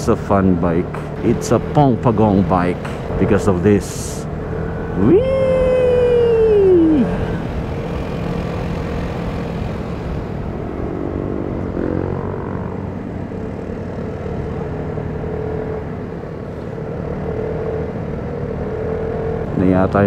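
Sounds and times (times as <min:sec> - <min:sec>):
scooter engine humming: 0:00.0 - 0:19.4.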